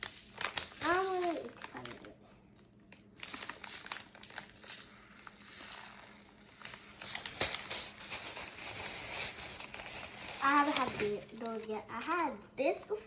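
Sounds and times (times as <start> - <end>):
plastic wrappers crinkling: 0.0 - 12.3.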